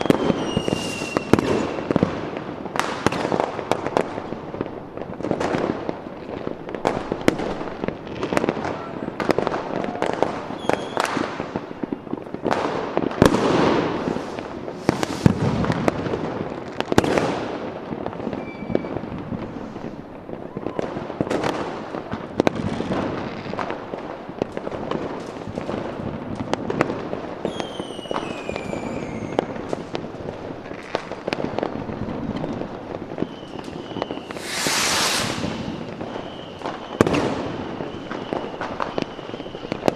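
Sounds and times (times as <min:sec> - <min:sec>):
whistling fireworks sliding down: 0:00.0 - 0:17.3, 0:18.0 - 0:21.6, 0:26.6 - 0:30.0, 0:30.6 - 0:39.9
fireworks bangs and crackling: 0:00.0 - 0:39.9.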